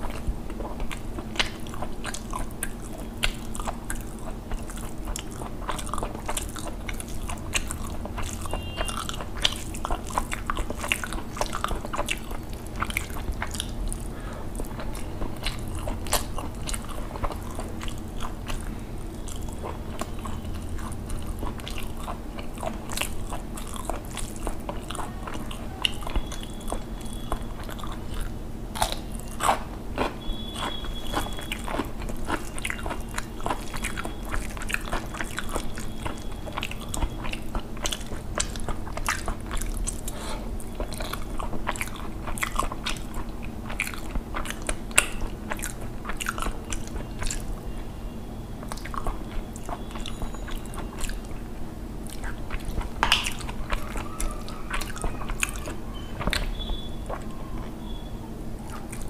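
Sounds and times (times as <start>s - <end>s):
close chewing: 0.0s - 58.0s, 58.6s - 59.0s.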